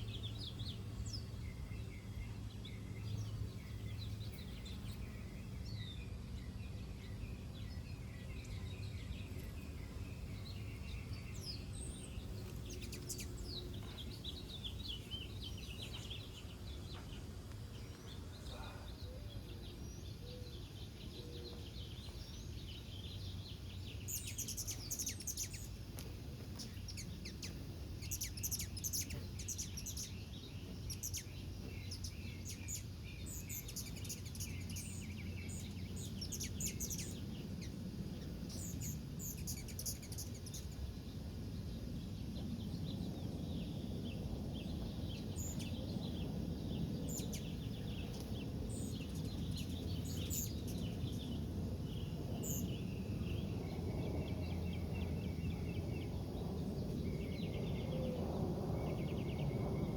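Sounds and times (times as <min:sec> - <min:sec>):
birds chirping: 0:00.0 - 0:59.9
low background rumble: 0:00.0 - 0:59.9.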